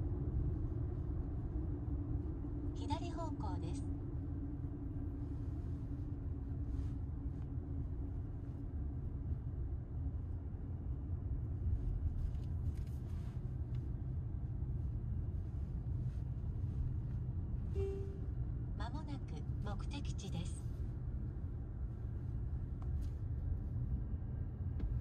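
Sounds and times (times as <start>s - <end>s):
car cabin road and engine noise: 0.0s - 25.0s.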